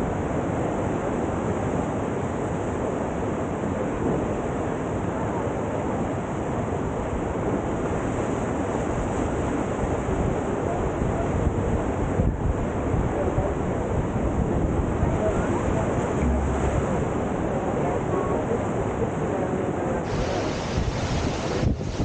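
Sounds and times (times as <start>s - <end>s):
river whitewater roaring: 0.0s - 22.0s.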